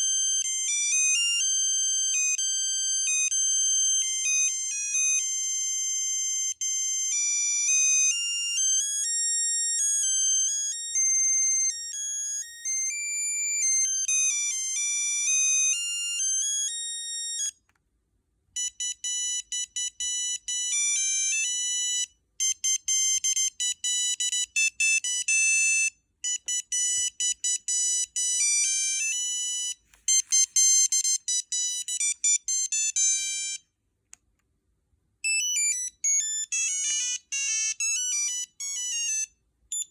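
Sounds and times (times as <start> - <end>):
electronic ringtone melodies: 0.0 - 17.6, 18.6 - 33.6, 35.2 - 39.9.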